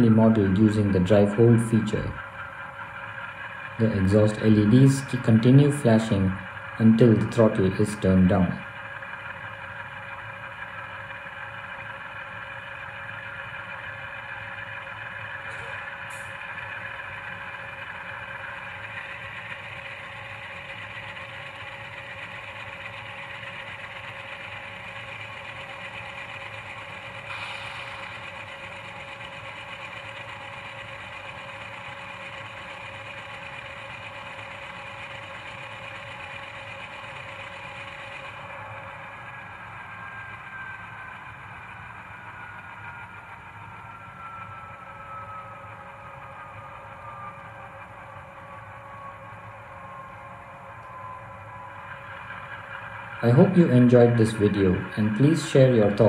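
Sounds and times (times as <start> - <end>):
diesel locomotive engine sound: 0.0 - 56.0.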